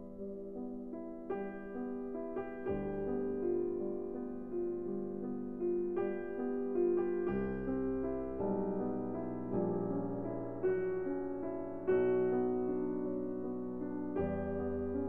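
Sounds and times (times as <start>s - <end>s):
gentle keyboard music: 0.0s - 15.0s.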